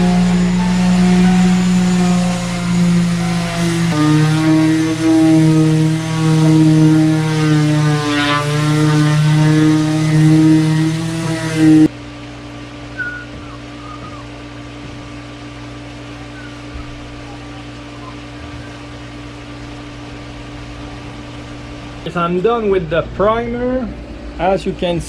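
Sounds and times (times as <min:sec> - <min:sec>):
buzzing motor drone: 0:00.0 - 0:25.0.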